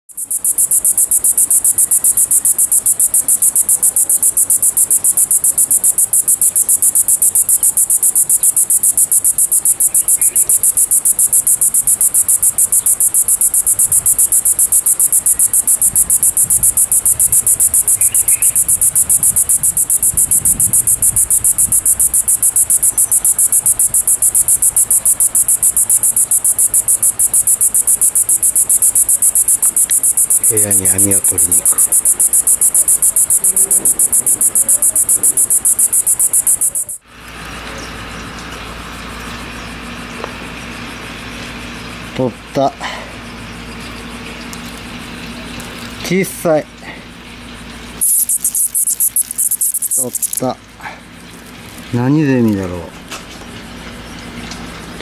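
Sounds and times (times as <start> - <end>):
cicada buzzing: 0.1 - 55.0.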